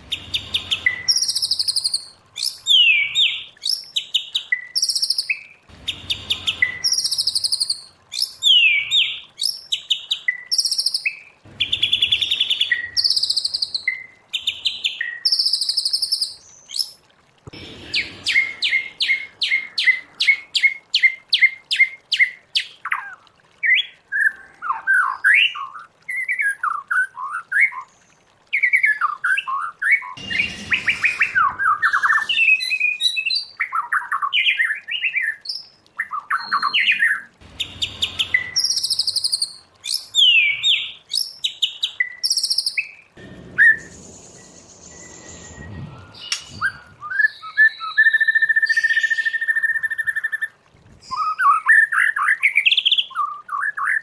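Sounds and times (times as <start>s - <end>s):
bird singing varied song: 0.0s - 28.0s, 28.6s - 50.4s.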